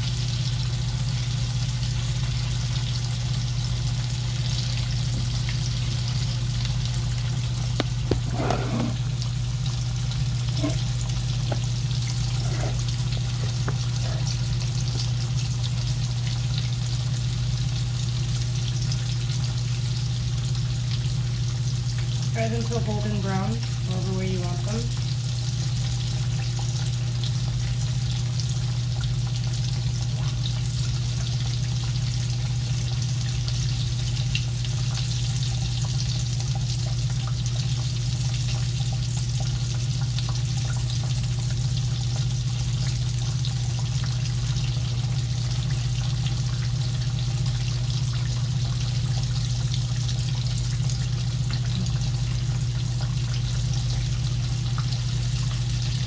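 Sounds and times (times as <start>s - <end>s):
tacos frying in oil: 0.0s - 56.0s.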